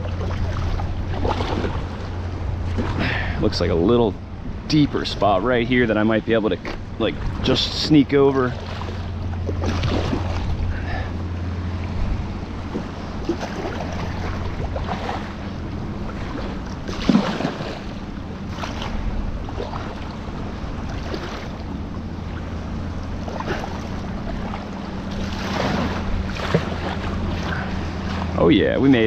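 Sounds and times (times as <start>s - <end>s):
paddle strokes splashing water: 0.0s - 3.9s, 6.3s - 29.0s
wind rumble on microphone: 0.0s - 29.0s.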